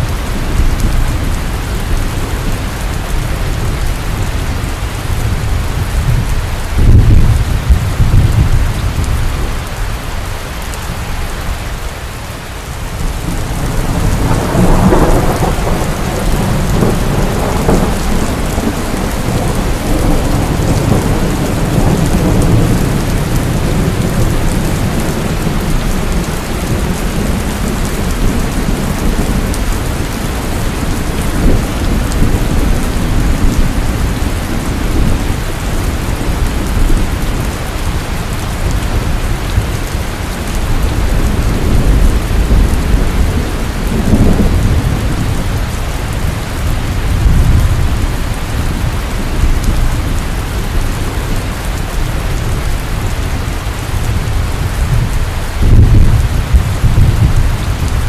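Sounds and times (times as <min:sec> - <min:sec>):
thunder clap and rumble: 0:00.0 - 0:11.5, 0:12.6 - 0:58.0
heavy rain: 0:00.0 - 0:58.0.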